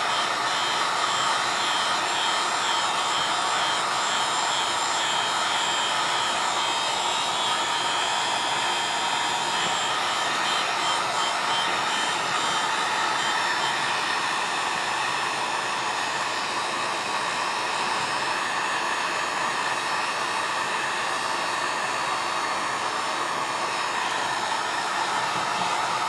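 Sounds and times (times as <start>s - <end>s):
heat gun fan rushing: 0.0s - 26.0s.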